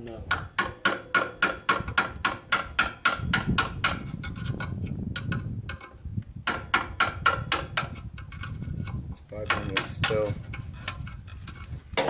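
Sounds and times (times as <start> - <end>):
hammer blows on metal: 0.3 - 10.4.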